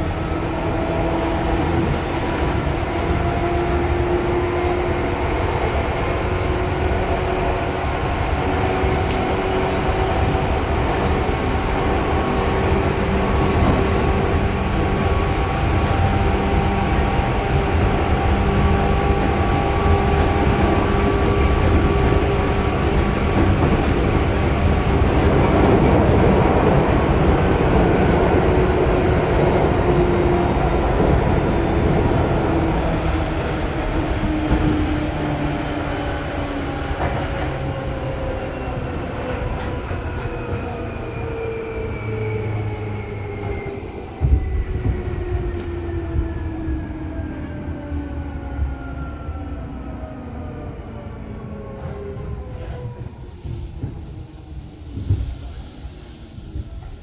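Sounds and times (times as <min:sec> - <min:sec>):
train wheel and track rumble: 0:00.0 - 0:57.0.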